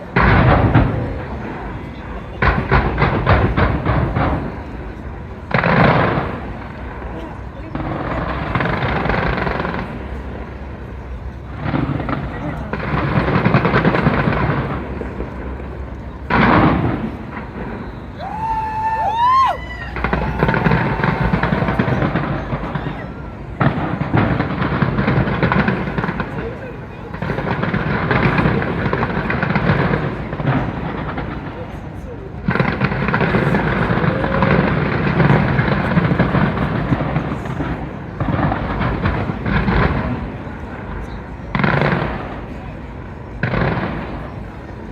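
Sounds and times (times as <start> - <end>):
crowd noise: 0.0 - 44.9
firework burst: 0.0 - 44.9.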